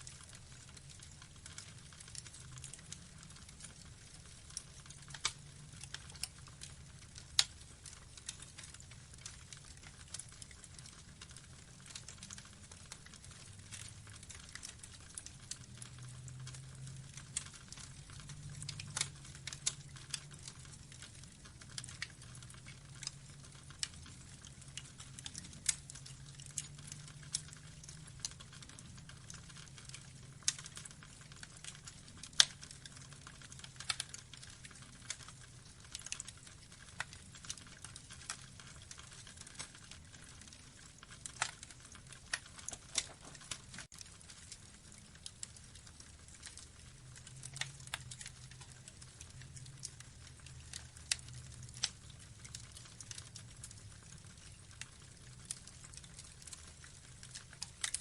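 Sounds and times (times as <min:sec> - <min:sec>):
faint low background: 0:00.0 - 0:58.0
wood fire crackling: 0:00.0 - 0:58.0.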